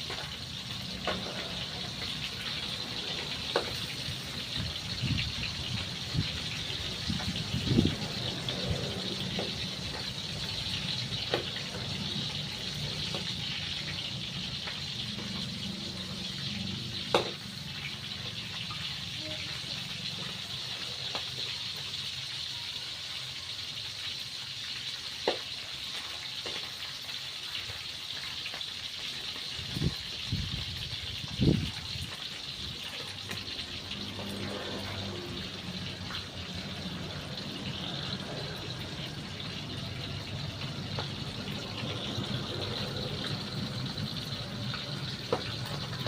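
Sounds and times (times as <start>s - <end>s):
fish sizzling in hot oil: 0.0s - 46.0s.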